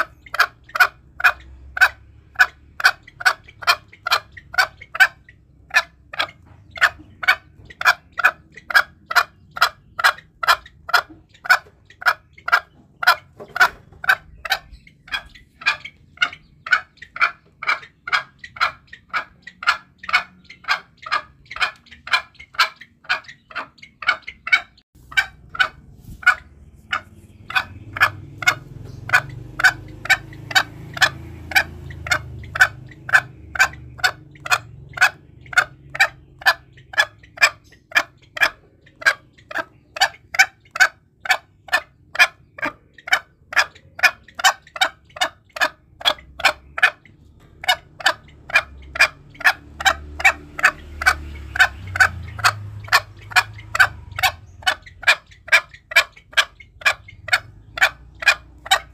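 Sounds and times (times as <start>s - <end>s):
junglefowl calling: 0.0s - 58.9s.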